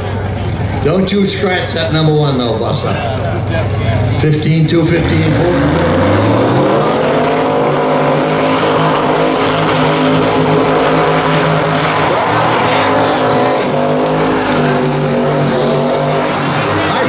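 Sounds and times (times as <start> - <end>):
tires spinning: 0.0 - 17.0
truck engines revving high: 0.0 - 17.0.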